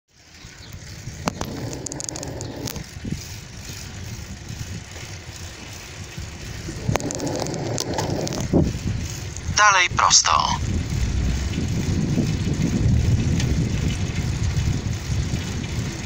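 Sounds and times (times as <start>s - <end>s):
bicycle tyre rumble: 0.1s - 16.0s
bike rattling clicks: 0.2s - 9.6s, 10.6s - 16.0s
wind buffeting microphone: 0.2s - 16.0s.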